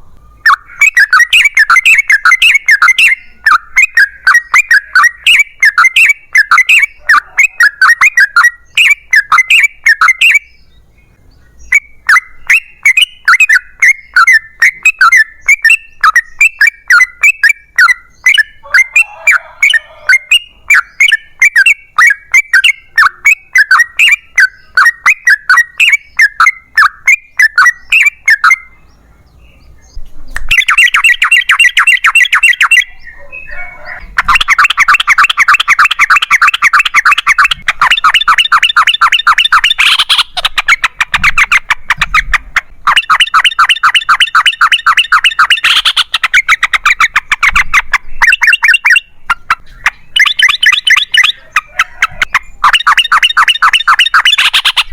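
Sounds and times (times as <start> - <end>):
bird singing rapid chattering notes: 0.0 - 54.9.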